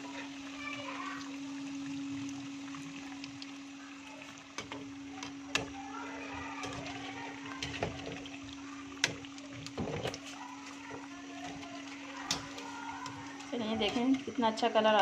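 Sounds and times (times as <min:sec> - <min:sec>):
patties sizzling in hot oil: 0:00.0 - 0:15.0.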